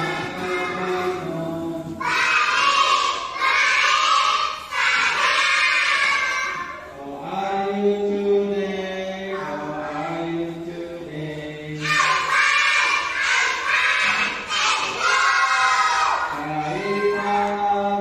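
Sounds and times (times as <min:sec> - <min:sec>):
voices singing long held notes: 0:00.0 - 0:18.0.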